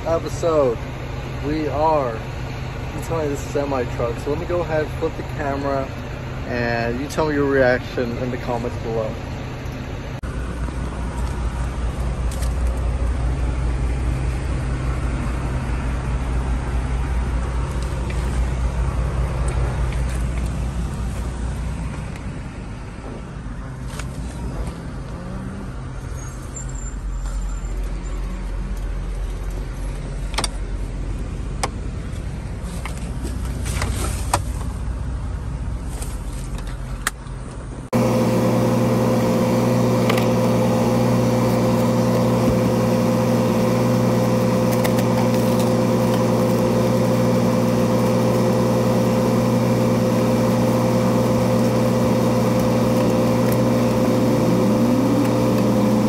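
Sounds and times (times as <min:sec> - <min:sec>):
engine idling rumble: 0:00.0 - 0:26.4, 0:27.1 - 0:56.0
even multi-tone hum: 0:00.0 - 0:56.0.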